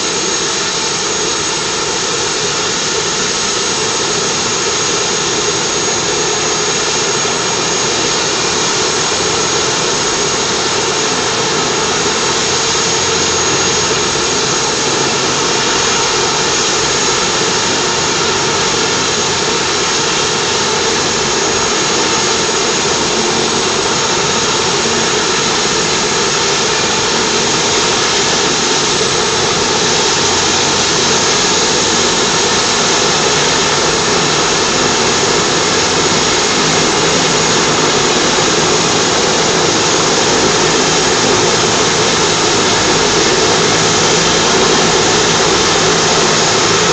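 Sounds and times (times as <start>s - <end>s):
helicopter turbine and rotor: 0.0s - 46.9s.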